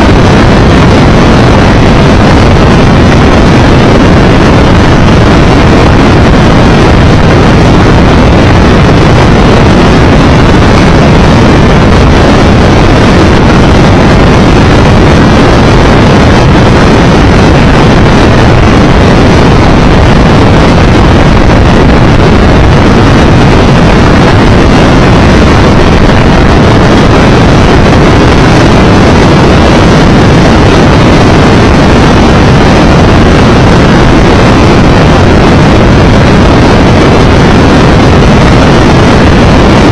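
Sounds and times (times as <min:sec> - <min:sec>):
motorcycle engine and road noise: 0:00.0 - 0:39.9
wind rushing over microphone: 0:00.0 - 0:39.9.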